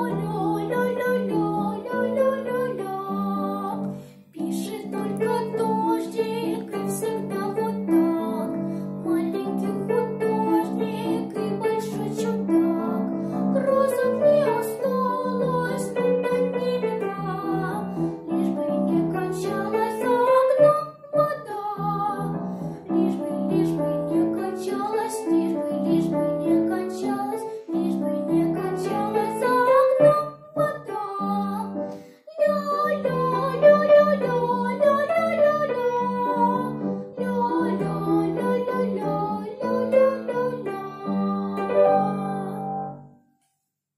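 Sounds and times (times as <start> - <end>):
girl singing: 0.0 - 43.1
piano accompaniment: 0.0 - 43.2.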